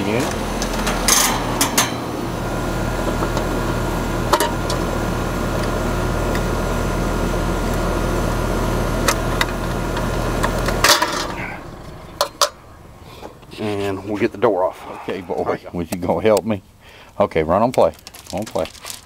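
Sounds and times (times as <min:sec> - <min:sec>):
heat pump humming: 0:00.0 - 0:16.2.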